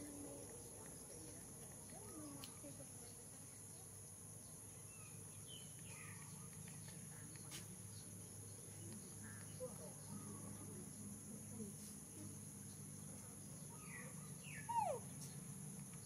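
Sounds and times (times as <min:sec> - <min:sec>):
faint chirps: 0:00.0 - 0:16.0.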